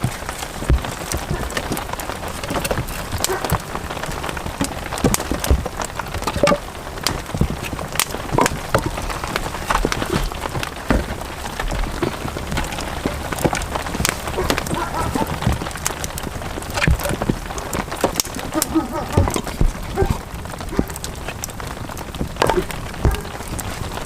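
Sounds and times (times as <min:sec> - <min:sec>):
heavy rain falling: 0:00.0 - 0:24.0
raindrops striking a surface: 0:00.0 - 0:24.0.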